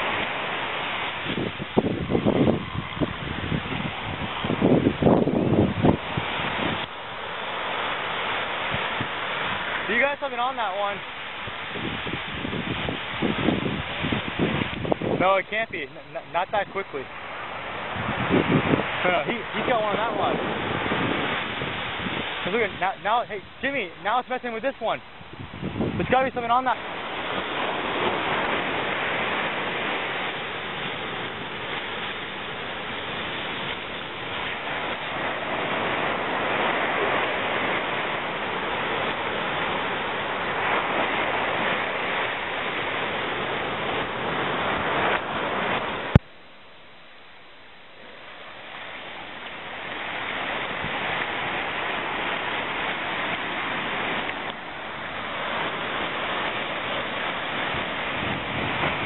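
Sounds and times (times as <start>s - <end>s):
ocean surf breaking on beach: 0.0s - 59.0s.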